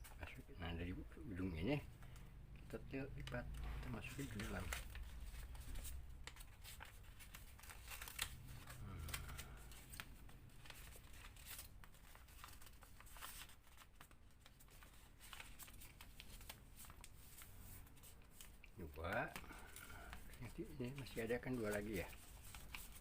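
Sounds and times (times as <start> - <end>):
paper crackling as it is folded: 0.0 - 23.0.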